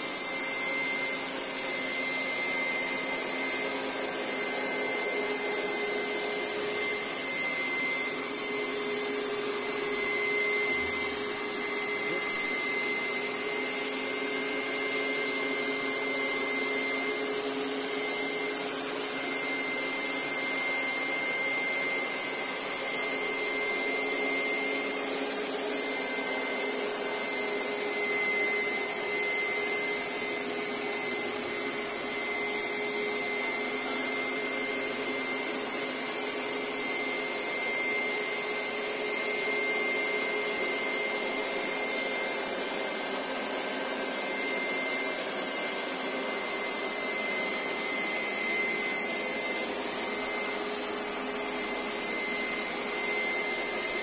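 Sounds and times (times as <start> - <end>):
carpet cleaner motor whining: 0.0 - 54.0.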